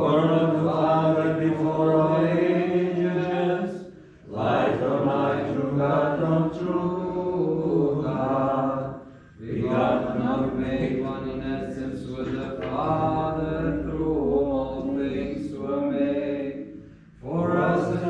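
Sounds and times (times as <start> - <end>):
liturgical chant singing: 0.0 - 18.0.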